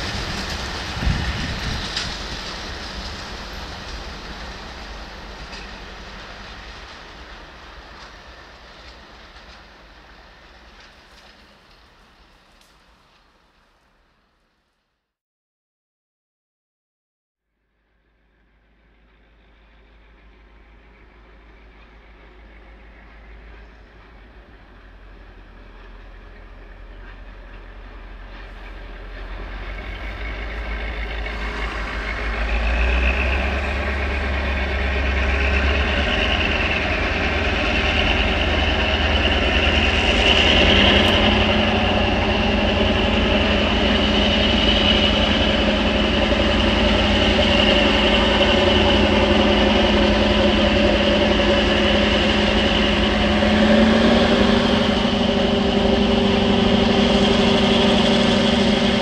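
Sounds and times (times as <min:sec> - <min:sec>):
diesel locomotive engine under load: 0:00.0 - 0:14.5, 0:17.9 - 0:59.0.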